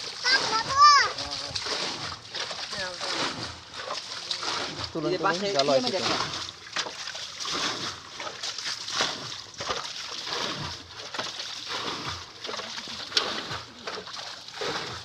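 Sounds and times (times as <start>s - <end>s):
muddy water splashing: 0.0s - 15.0s.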